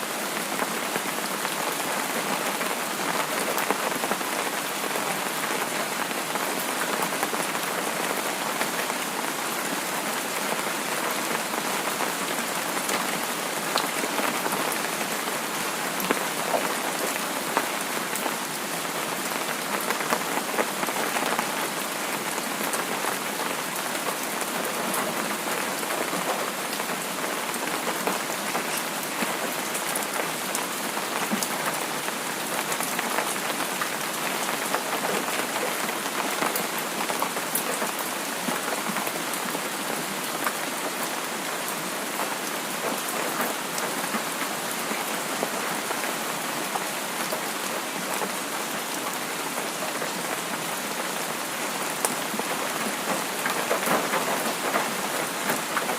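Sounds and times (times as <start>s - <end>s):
rain falling on a surface: 0.0s - 55.9s.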